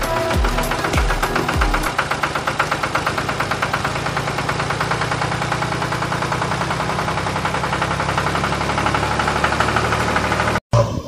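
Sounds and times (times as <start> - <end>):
tractor engine idling: 0.0 - 10.6.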